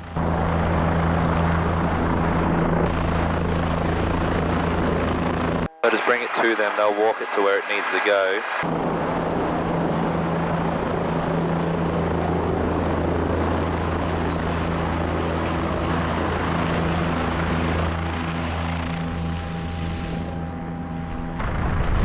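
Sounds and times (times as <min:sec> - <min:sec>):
helicopter rotor and turbine drone: 0:00.0 - 0:22.0
higher steady tones: 0:02.9 - 0:21.5.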